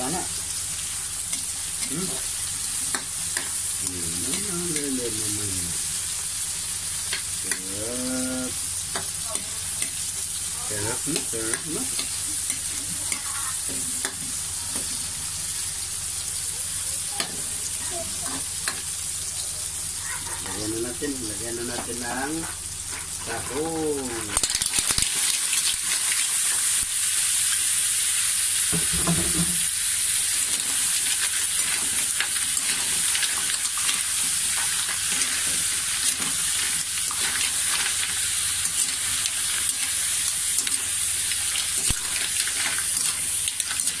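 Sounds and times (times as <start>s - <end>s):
food sizzling in oil: 0.0s - 44.0s.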